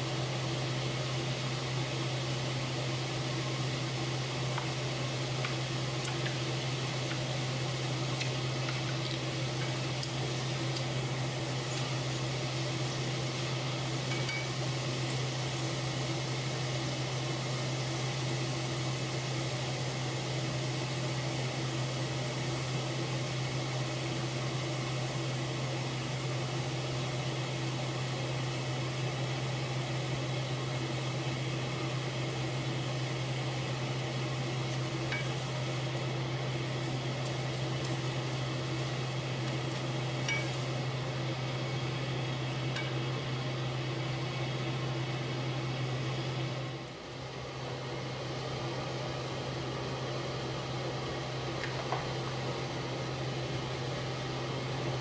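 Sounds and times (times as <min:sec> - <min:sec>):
oil sizzling: 0:00.0 - 0:50.3, 0:51.0 - 0:55.0.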